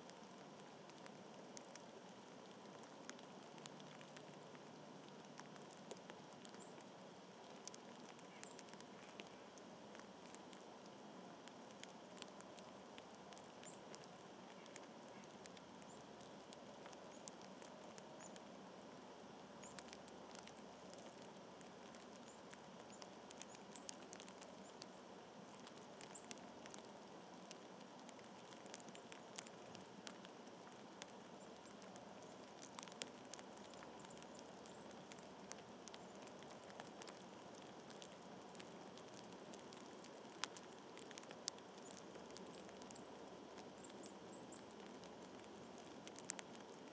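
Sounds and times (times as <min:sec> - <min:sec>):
faint outdoor hiss: 0:00.0 - 0:46.9
small ticks and light pattering: 0:00.0 - 0:46.9.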